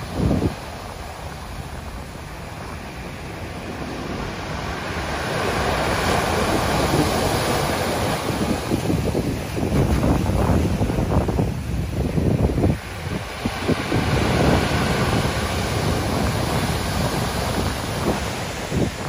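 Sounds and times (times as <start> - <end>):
sea surf breaking on shore: 0.0 - 19.0
wind buffeting microphone: 0.0 - 19.0.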